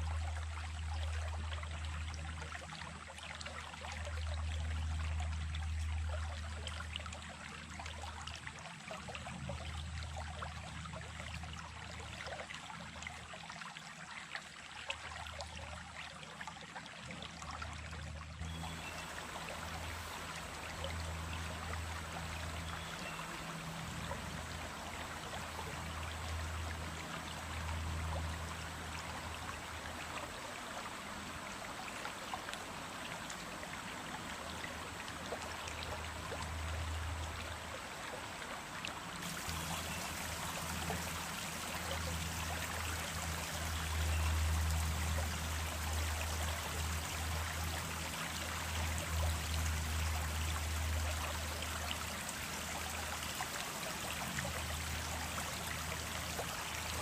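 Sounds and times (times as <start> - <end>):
stream of running water: 0.0 - 57.0.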